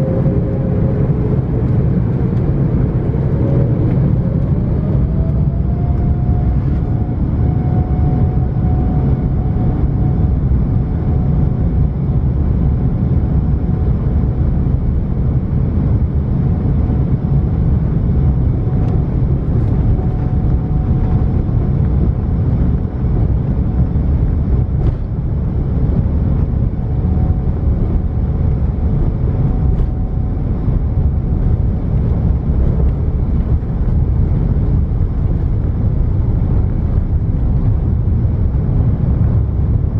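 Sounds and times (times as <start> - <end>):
airplane cabin roar: 0.0 - 39.9
faint engine whine: 0.0 - 39.9.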